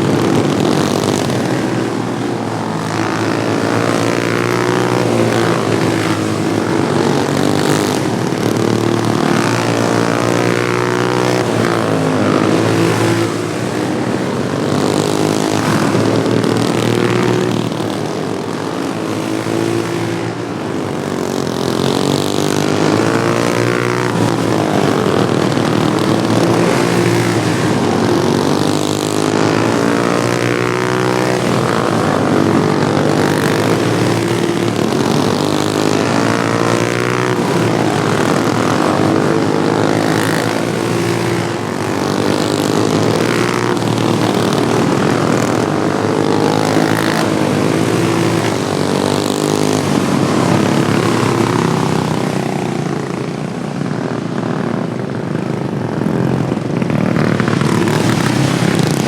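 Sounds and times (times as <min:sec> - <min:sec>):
small racing engines running hard: 0:00.0 - 0:59.0.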